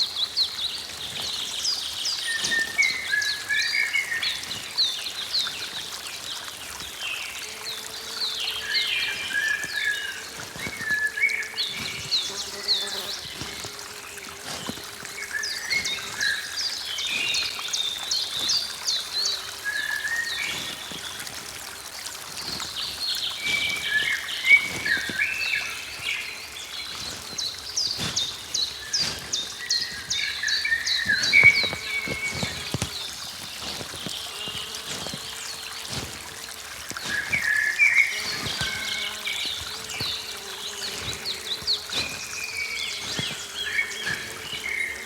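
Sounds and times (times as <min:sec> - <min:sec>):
songbirds singing: 0:00.0 - 0:45.0
water trickling and dripping: 0:00.0 - 0:45.0.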